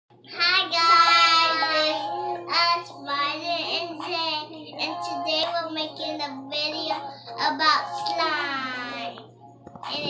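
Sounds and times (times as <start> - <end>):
child singing: 0.3 - 10.0.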